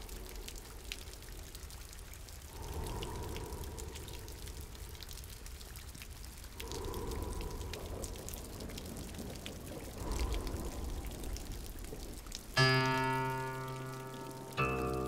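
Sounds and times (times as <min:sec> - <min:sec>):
falling and pouring water: 0:00.0 - 0:15.0
rain drips and splashes: 0:00.0 - 0:15.0.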